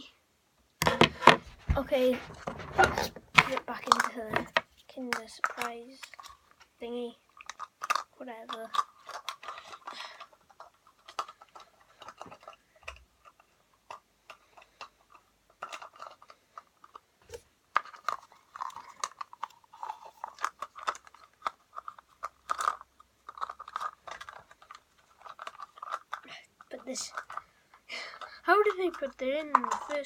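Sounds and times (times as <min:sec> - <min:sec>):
plastic toy pieces clicking: 0:02.6 - 0:17.0, 0:17.7 - 0:30.0.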